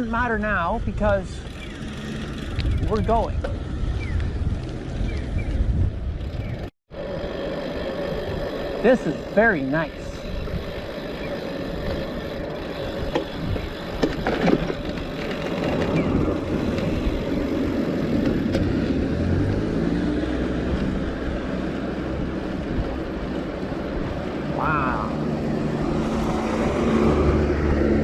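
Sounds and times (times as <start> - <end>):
wind rumble on microphone: 0.6 - 6.7, 10.1 - 28.0
motor vehicle passing: 1.4 - 28.0.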